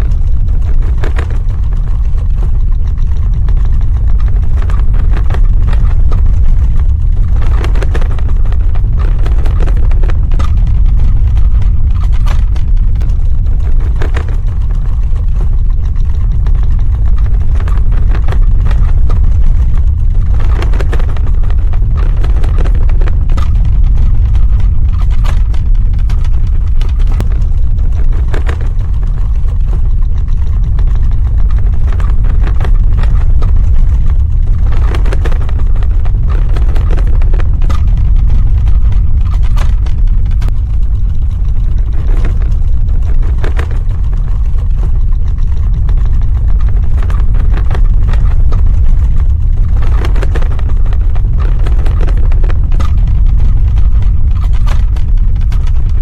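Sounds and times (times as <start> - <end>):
crackling and rattling debris: 0.0 - 56.0
deep earthquake rumble: 0.0 - 56.0.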